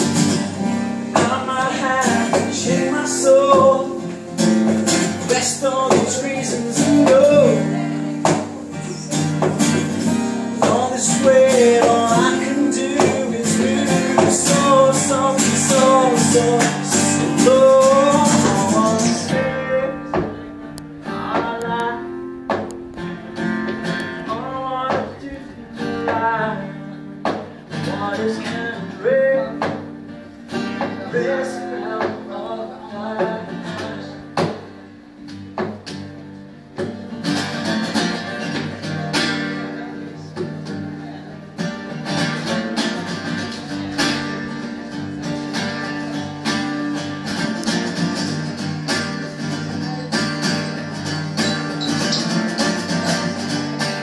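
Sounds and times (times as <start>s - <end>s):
man singing: 0.0s - 34.7s, 42.0s - 54.0s
acoustic guitar strumming: 0.0s - 54.0s.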